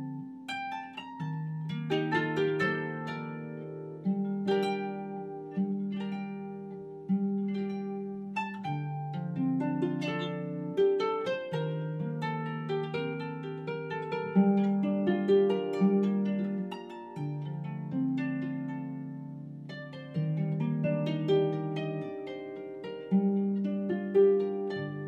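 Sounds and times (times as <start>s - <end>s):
harp plucked notes: 0.0s - 25.0s.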